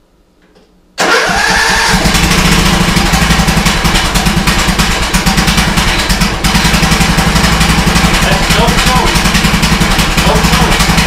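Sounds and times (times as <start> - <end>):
lawn mower engine running: 1.0 - 11.0.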